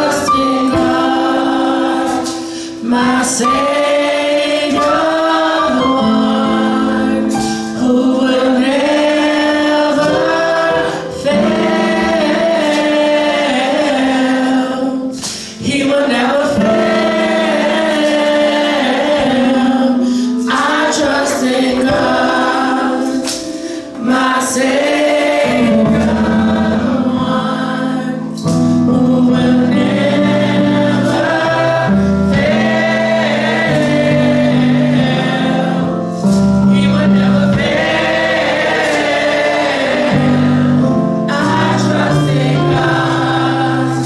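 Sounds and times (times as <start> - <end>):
gospel choir singing: 0.0 - 44.0.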